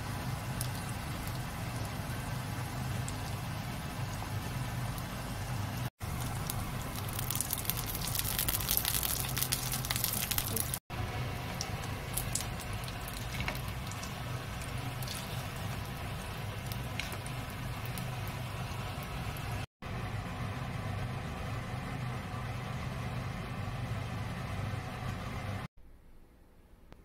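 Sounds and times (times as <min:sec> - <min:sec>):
dumplings sizzling in oil: 0:00.0 - 0:24.3.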